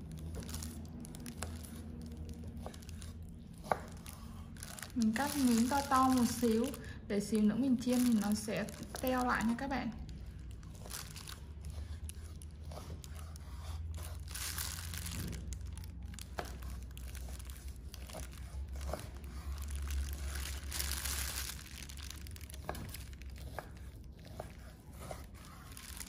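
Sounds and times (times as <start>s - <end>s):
plastic glove crinkling: 0.0s - 26.0s.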